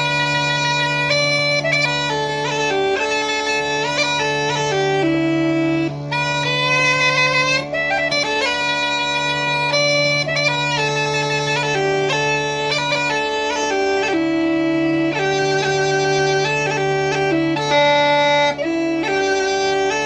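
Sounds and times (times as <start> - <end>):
bagpipe melody over drones: 0.0 - 20.0.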